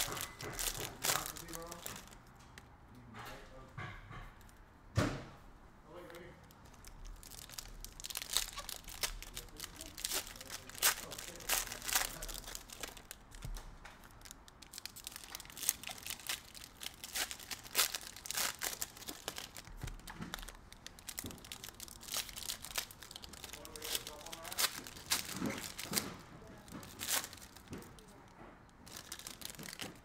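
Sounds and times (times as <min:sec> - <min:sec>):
foil wrappers crinkling: 0:00.0 - 0:02.3, 0:05.9 - 0:30.0.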